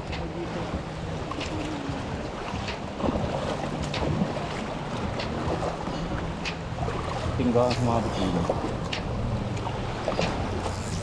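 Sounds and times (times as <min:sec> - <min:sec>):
sea: 0:00.0 - 0:11.0
wind buffeting microphone: 0:00.0 - 0:11.0.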